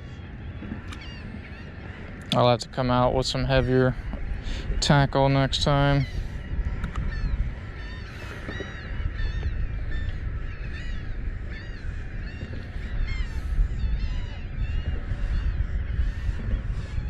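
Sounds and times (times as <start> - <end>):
birds squawking: 0.0 - 17.0
wind rumble on microphone: 0.0 - 17.0.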